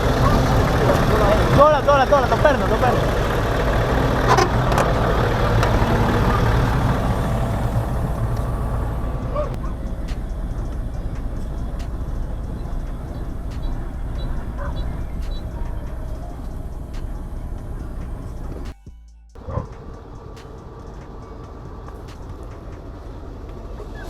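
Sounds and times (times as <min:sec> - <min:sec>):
diesel engine running: 0:00.0 - 0:18.8, 0:19.4 - 0:24.0.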